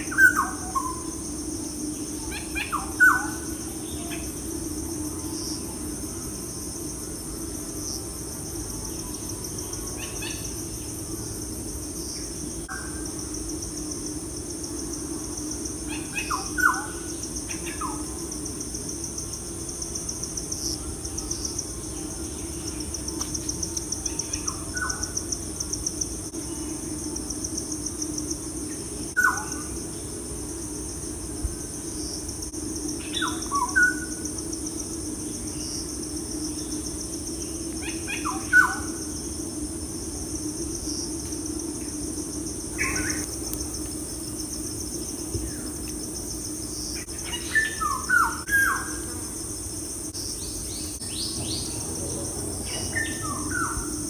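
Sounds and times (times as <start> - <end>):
insect trill: 0.0 - 54.0
low steady hum: 0.0 - 54.0.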